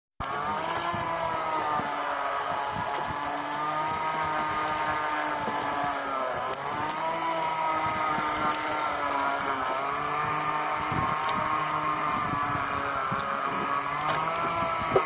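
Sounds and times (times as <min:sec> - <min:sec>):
small boat engine running: 0:00.2 - 0:15.0.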